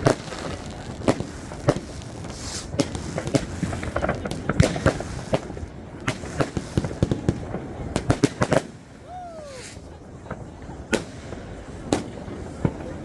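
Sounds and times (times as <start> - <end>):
distant firework bursts: 0.0 - 13.0
firework hiss: 0.0 - 13.0
fireworks bangs and pops: 0.0 - 13.0.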